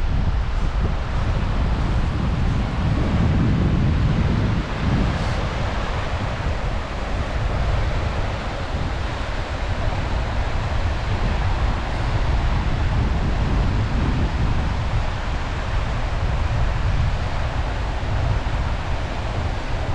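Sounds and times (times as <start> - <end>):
sea waves washing onto beach: 0.0 - 19.9
wind buffeting microphone: 0.0 - 19.9.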